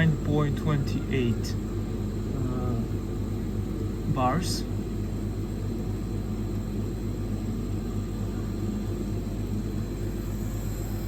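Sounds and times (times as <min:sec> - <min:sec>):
air dryer machine hum: 0:00.0 - 0:11.0.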